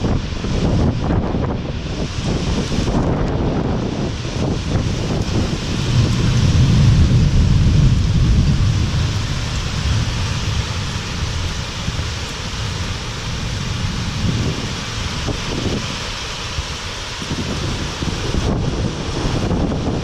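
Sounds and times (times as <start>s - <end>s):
low thunder rumble: 0.0s - 20.0s
wind and rain hiss: 0.0s - 20.0s.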